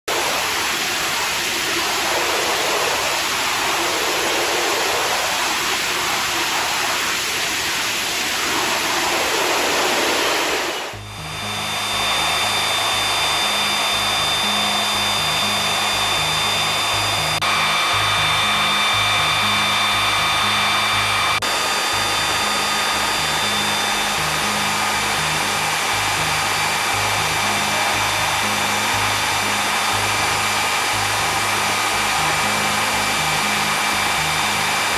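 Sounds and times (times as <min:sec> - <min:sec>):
high whining tones: 0:00.1 - 0:34.9
jet engine roaring: 0:00.1 - 0:34.9.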